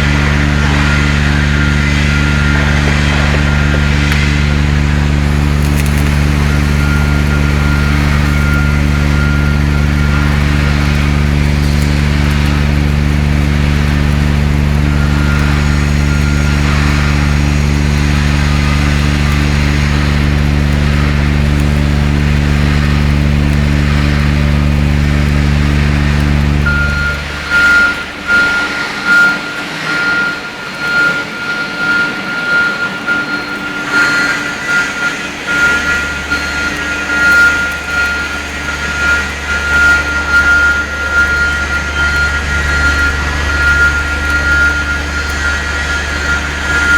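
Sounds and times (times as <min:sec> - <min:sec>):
machine humming: 0:00.0 - 0:46.9.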